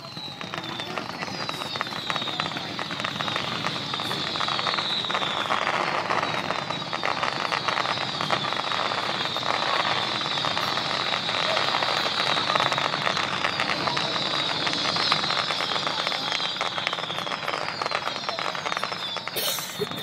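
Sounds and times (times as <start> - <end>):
falling firework whistle: 0.0 - 20.0
fireworks crackling: 0.0 - 20.0.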